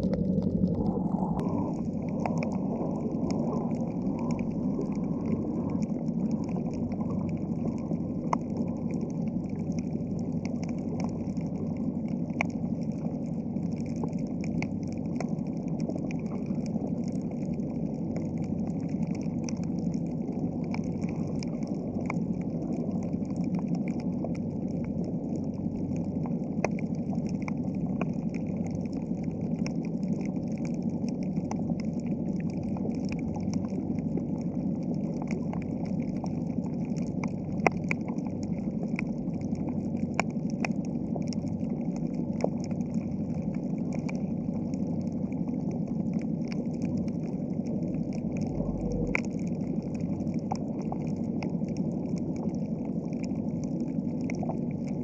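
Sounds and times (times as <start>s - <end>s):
sharp underwater clicks: 0.0s - 55.0s.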